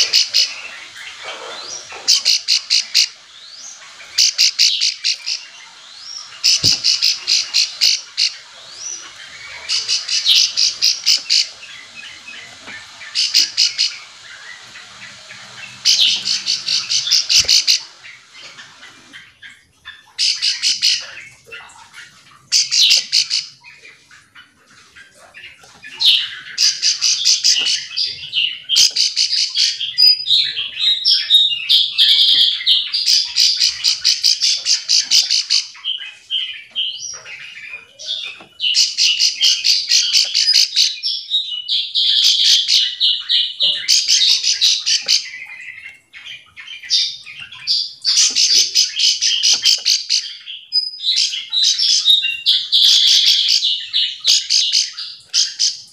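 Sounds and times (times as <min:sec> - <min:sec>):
bird buzzy trilled calls: 0:00.0 - 0:21.3, 0:22.5 - 0:23.7, 0:25.6 - 0:55.9.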